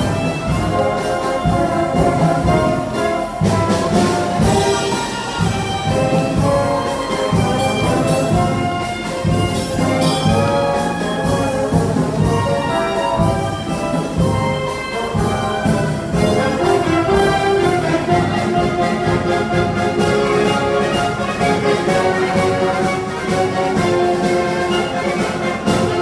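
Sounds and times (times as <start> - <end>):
concert band playing: 0.0 - 26.0
percussion beat: 0.0 - 26.0.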